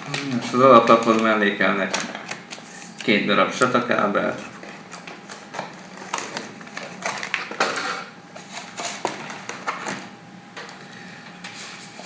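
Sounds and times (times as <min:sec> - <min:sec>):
packaging rustling: 0:00.0 - 0:09.9.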